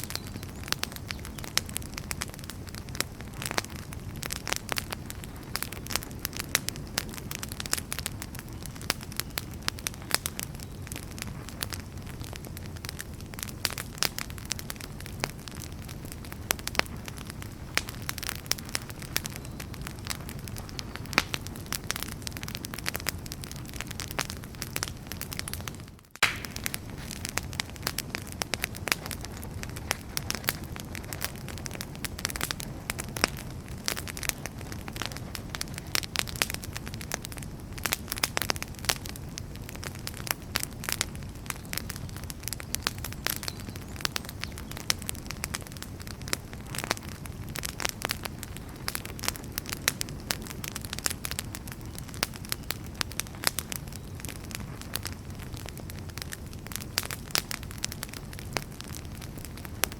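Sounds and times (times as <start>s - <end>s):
firewood crackling and snapping: 0.0s - 59.9s
low rumble of flames: 0.0s - 59.9s.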